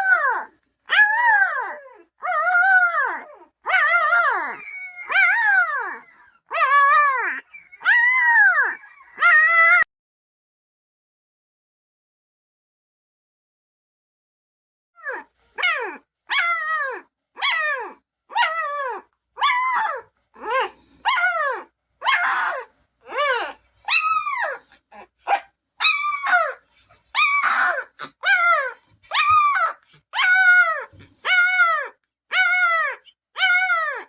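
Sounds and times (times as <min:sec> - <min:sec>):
puppy crying: 0:00.0 - 0:09.9, 0:15.0 - 0:34.0.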